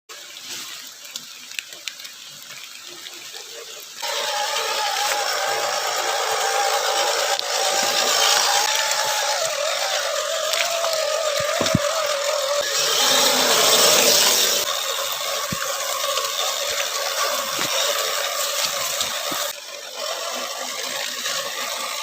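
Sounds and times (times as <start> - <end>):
hiss: 3.1 - 22.0
electric motor and gears whining: 4.0 - 22.0.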